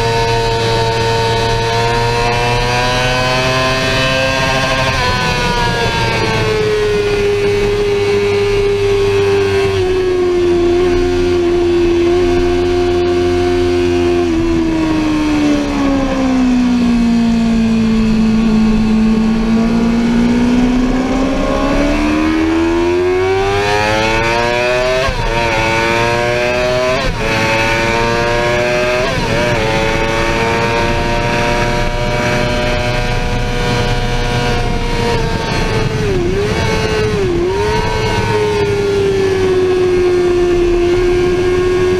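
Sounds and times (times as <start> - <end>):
motorcycle engine revving: 0.0 - 41.9
steady rushing noise: 0.0 - 41.9.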